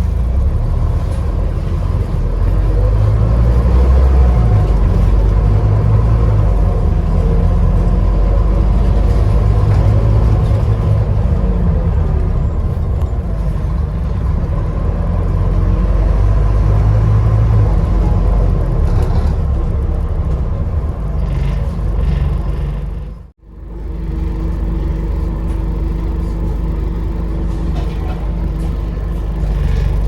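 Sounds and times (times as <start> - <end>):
bus diesel engine rumble: 0.0 - 30.0.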